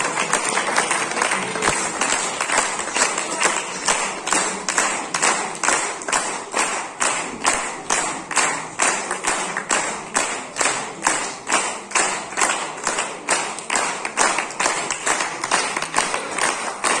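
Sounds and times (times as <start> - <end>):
audience clapping in rhythm: 0.0 - 17.0.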